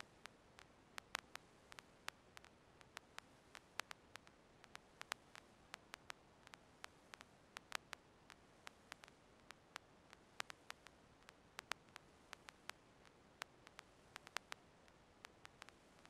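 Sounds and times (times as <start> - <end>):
faint steady hiss: 0.0 - 16.0
sharp crackle clicks: 0.0 - 16.0.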